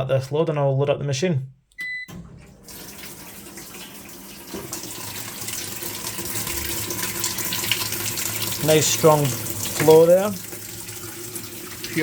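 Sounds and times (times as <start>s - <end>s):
water pouring into washing machine: 2.1s - 12.0s.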